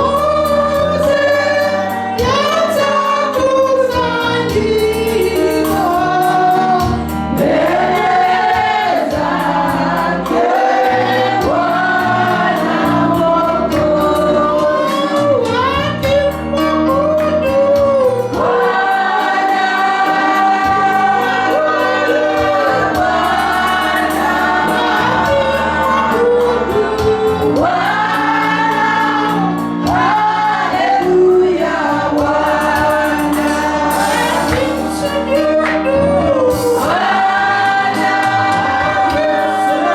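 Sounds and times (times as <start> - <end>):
band with bass and drums: 0.0 - 39.9
choir and congregation singing: 0.0 - 39.9.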